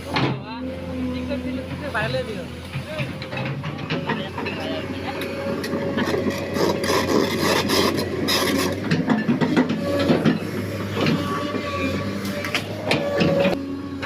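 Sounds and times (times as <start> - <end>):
excavator engine humming: 0.0 - 14.0
steel tracks clattering and scraping: 1.2 - 13.6.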